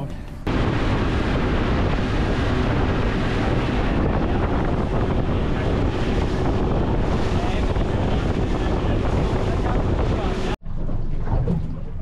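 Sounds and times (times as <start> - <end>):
outboard engine: 0.2 - 12.0
wind on microphone: 0.4 - 12.0
rushing water: 0.5 - 12.0.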